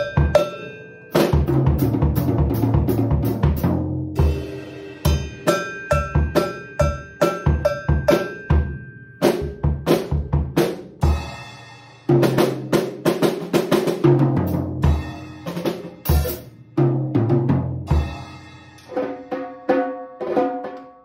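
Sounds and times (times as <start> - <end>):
drum kit played with sticks: 0.0 - 21.0.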